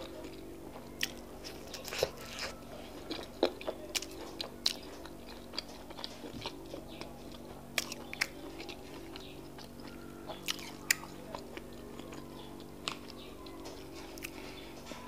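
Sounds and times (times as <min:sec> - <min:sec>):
close chewing: 0:00.0 - 0:15.0
faint steady hum: 0:00.0 - 0:15.0.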